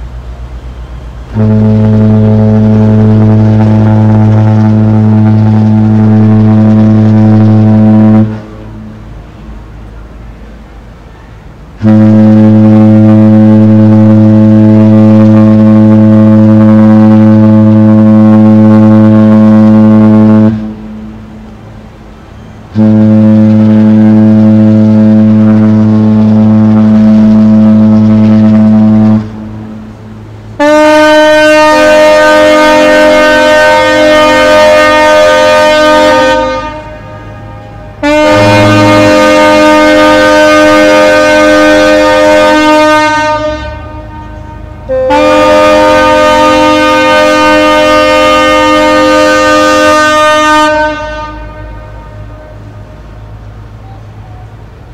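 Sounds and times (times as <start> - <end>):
deep ship horn blasts: 0.0 - 10.6, 11.6 - 54.6
higher-pitched multi-tone ship horn: 1.3 - 9.1, 11.8 - 21.5, 22.7 - 54.5.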